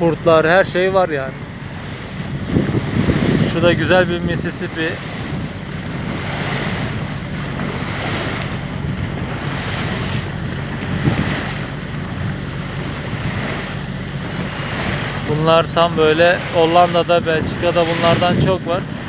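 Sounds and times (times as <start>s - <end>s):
boat motor humming: 0.0s - 19.0s
water washing: 0.0s - 19.0s
wind buffeting microphone: 0.0s - 19.0s.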